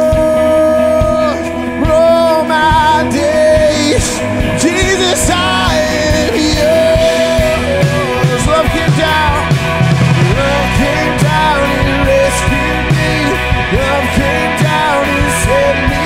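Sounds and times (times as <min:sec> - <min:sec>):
drum kit: 0:00.0 - 0:16.0
electric guitars: 0:00.0 - 0:16.0
man singing lead vocal: 0:00.0 - 0:16.0.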